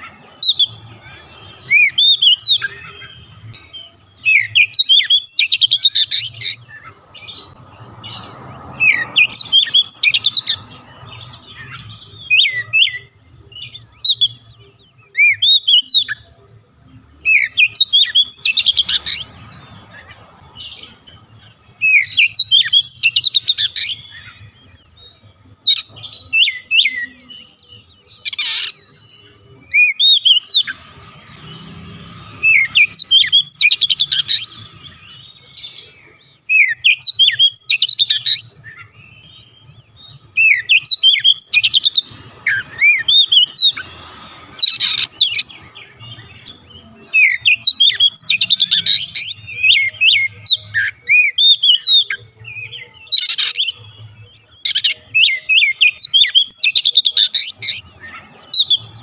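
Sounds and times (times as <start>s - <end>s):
bird singing whistled trills: 0.0s - 19.7s, 20.6s - 59.0s.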